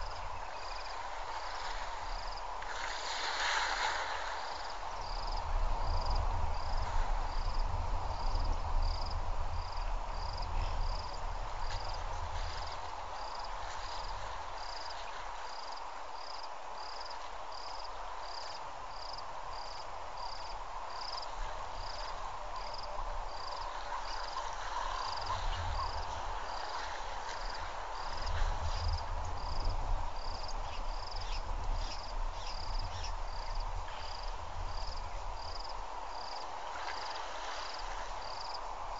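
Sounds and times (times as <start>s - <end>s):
insect chirping: 0.0s - 38.7s.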